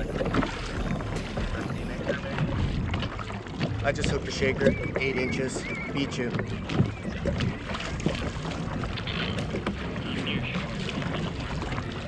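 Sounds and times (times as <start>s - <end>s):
waves slapping plastic hull: 0.0s - 12.0s
wind on microphone: 0.0s - 12.0s.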